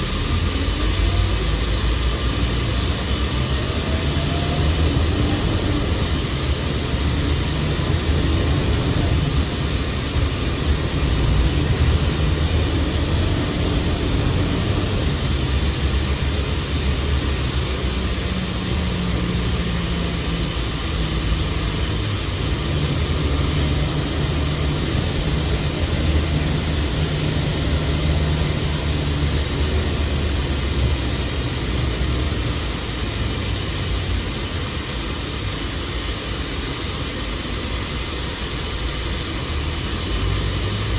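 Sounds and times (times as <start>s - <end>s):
bus engine rumbling: 0.0s - 40.9s.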